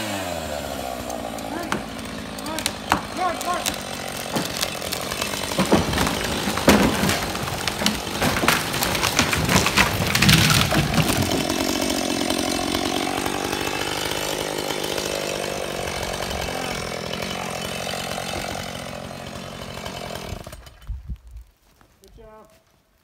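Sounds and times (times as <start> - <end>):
chainsaw idling: 0.0 - 20.8
tree cracking and crashing down: 0.2 - 23.0.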